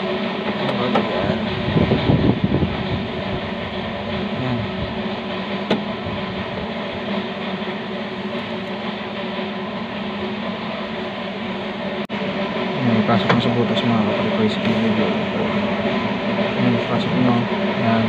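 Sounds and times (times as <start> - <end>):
mechanical hum of machine: 0.0 - 18.0.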